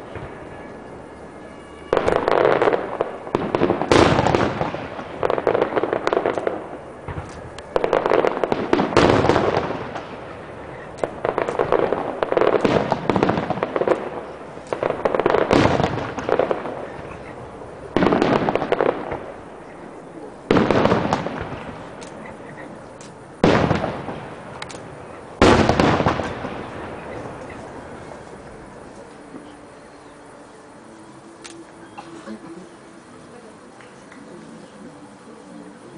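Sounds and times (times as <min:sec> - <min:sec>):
fireworks bursting with crackle: 0:00.0 - 0:35.9.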